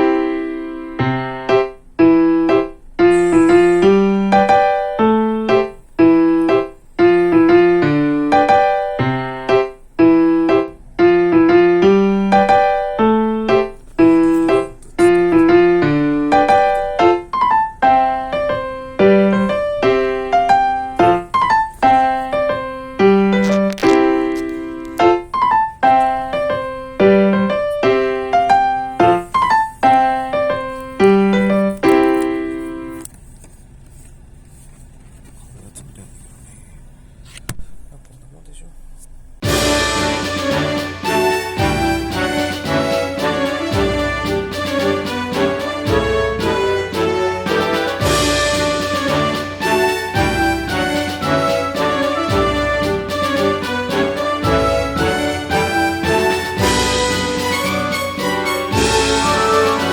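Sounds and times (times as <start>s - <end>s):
piano melody: 0.0s - 33.1s, 39.4s - 59.9s.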